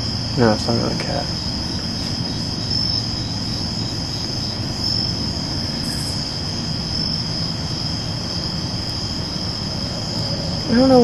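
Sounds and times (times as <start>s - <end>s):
crickets trilling: 0.0s - 11.0s
low rumbling noise: 0.0s - 11.0s.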